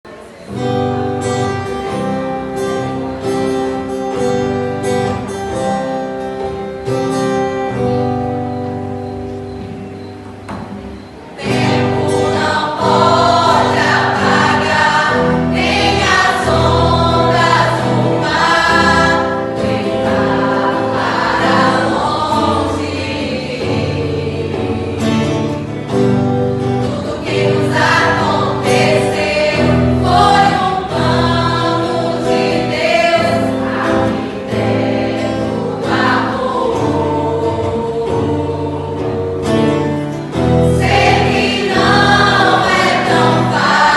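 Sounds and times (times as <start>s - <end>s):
mixed choir singing gospel: 0.1s - 43.9s.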